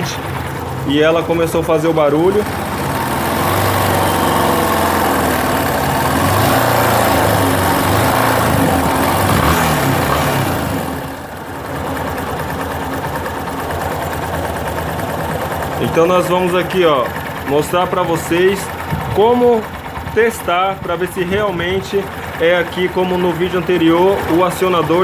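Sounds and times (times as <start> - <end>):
engine ticking: 0.0 - 25.0
motorcycle engine running: 0.0 - 25.0.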